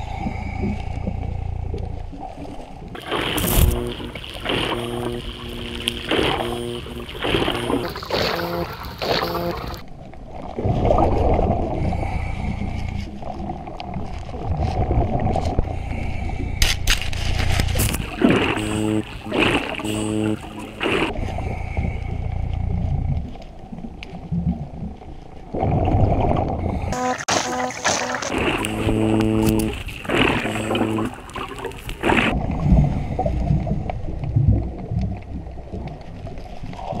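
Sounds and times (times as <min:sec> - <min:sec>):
scuba regulator bubbles: 0:00.0 - 0:16.7, 0:17.4 - 0:37.0.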